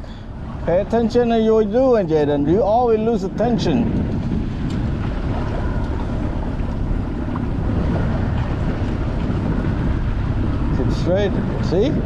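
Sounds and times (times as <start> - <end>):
outboard motor rumbling: 0.0 - 12.0
wind buffeting microphone: 0.0 - 12.0.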